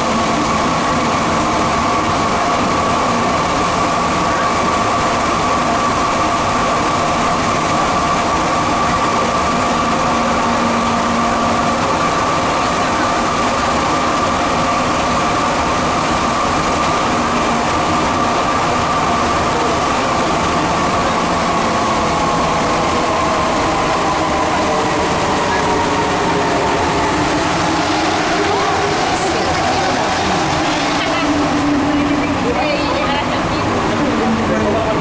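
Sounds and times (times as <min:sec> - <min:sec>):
high steady whine: 0:00.0 - 0:35.0
train running rumble: 0:00.0 - 0:35.0.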